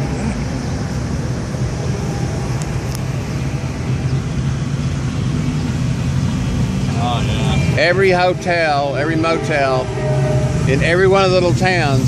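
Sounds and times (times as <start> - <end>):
car engines rumbling past: 0.0 - 12.0.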